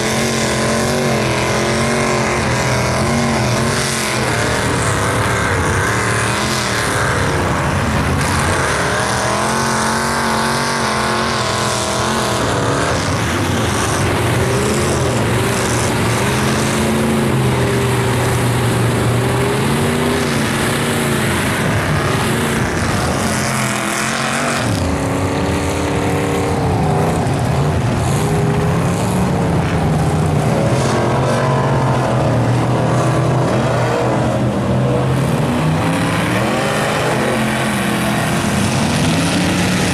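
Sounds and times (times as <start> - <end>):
truck engines revving in mud: 0.0 - 39.9.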